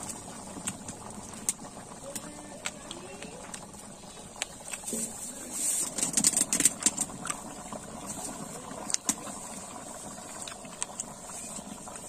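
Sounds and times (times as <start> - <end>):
pot bubbling and popping: 0.0 - 12.0.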